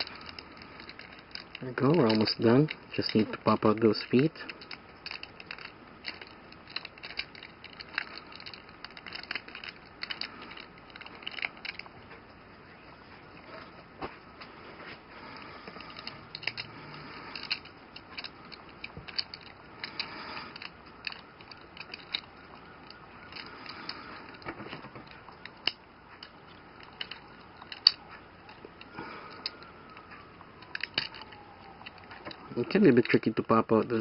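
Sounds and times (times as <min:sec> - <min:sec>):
plastic toy joints clicking: 0:00.0 - 0:12.0, 0:15.7 - 0:34.0.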